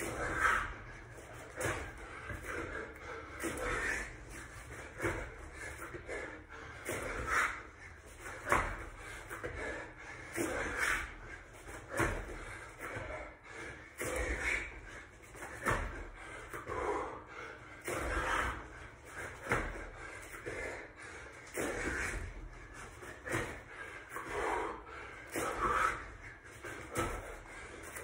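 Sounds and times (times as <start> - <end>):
man breathing hard: 0.0 - 28.0.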